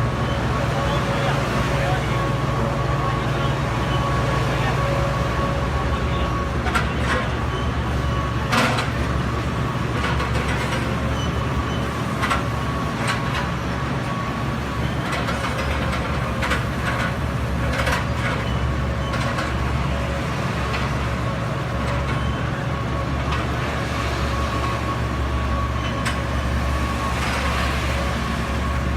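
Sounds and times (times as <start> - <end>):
excavator engine whining: 0.0 - 28.9.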